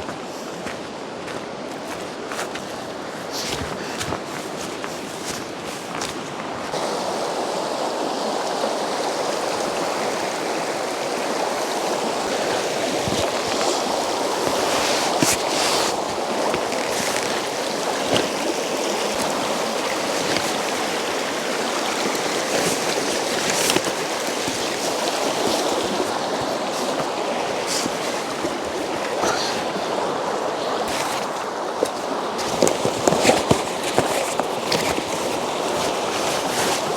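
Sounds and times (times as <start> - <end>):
mountain river rushing: 0.0 - 36.9.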